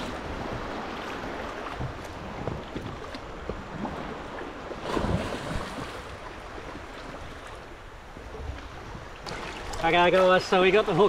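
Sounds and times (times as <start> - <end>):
wind on microphone: 0.0 - 9.8
surf washing in shallows: 0.0 - 11.0.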